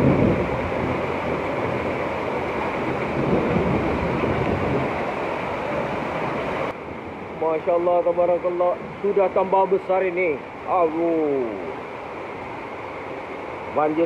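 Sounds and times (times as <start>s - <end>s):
heavy rain roaring: 0.0s - 14.0s.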